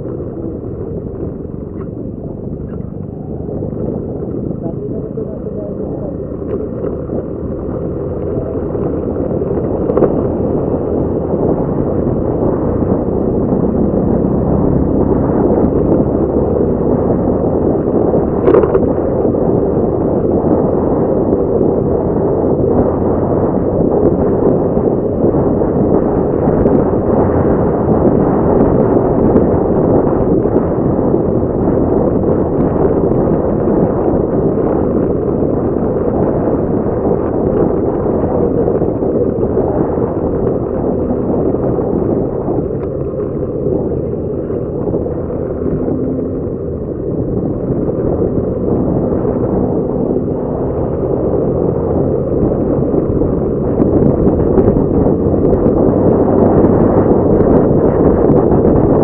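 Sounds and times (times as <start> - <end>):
motorcycle engine running: 0.0 - 59.0
wind buffeting microphone: 0.0 - 59.0.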